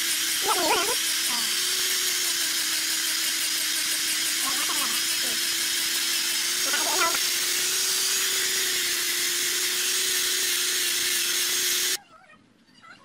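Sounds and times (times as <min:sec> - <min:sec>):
angle grinder sanding wood: 0:00.0 - 0:12.0.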